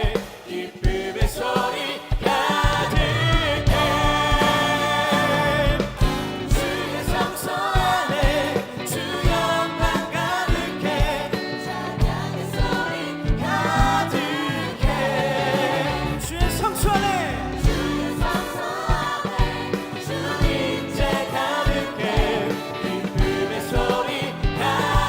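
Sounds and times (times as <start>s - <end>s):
full band playing: 0.0s - 25.0s
steady drum beat: 0.0s - 25.0s
voices singing worship song: 0.0s - 25.0s.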